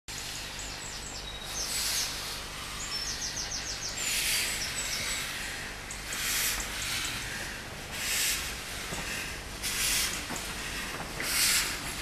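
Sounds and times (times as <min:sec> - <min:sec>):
small birds chirping: 0:00.1 - 0:12.0
steam locomotive moving slowly: 0:00.1 - 0:12.0
steam hissing: 0:01.4 - 0:12.0.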